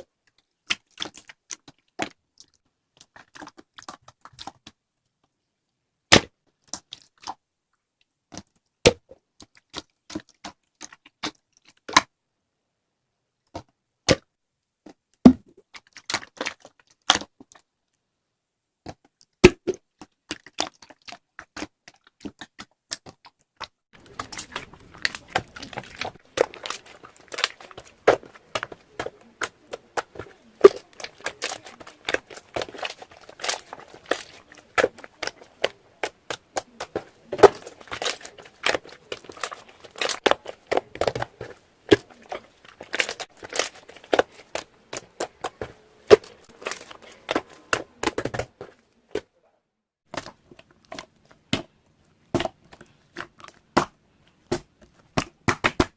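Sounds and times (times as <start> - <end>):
close-up crinkling and crackling: 0.0 - 5.8, 6.4 - 12.2, 13.4 - 18.2, 18.8 - 49.4, 50.0 - 55.9.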